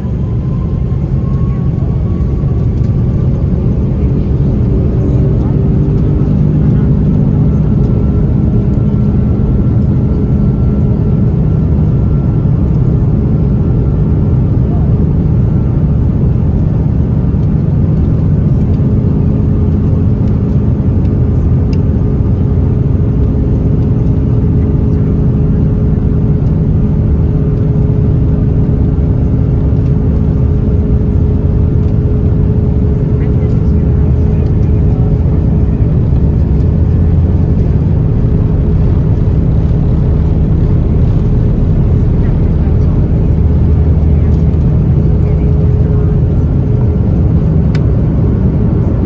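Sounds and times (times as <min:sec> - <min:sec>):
faint high engine whine: 0:00.0 - 0:49.0
jet engines rumbling in cabin: 0:00.0 - 0:49.0.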